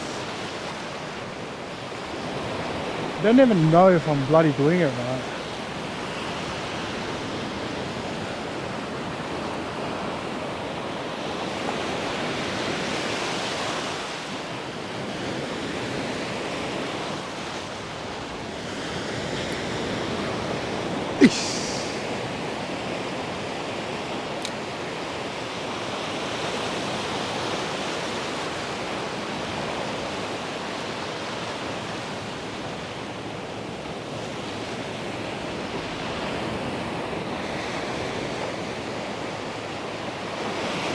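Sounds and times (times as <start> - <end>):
ocean surf on a beach: 0.0 - 40.9.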